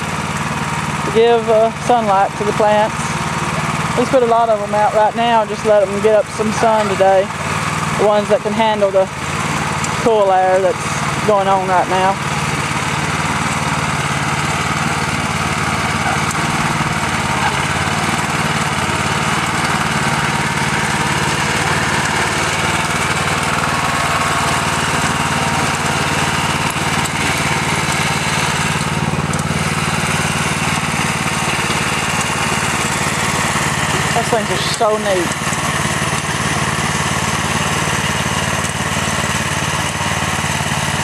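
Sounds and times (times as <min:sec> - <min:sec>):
small gasoline engine running: 0:00.0 - 0:41.0
tiller tines working soil: 0:00.0 - 0:41.0.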